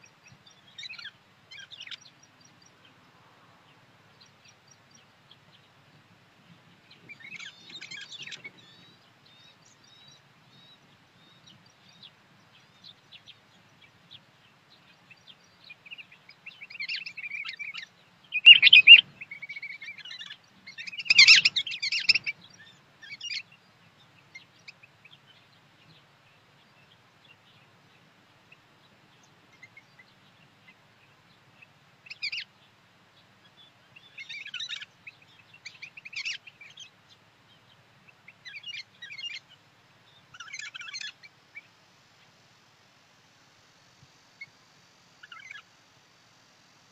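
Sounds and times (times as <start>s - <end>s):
small songbirds chirping: 0.0s - 46.9s.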